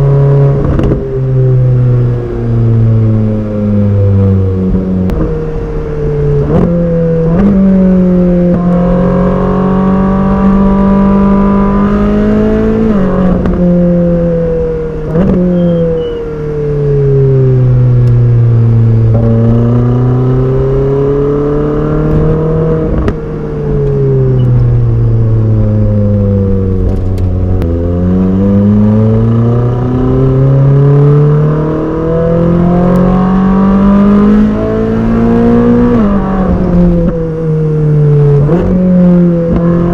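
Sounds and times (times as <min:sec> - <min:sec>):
sports car engine revving: 0:00.0 - 0:39.9.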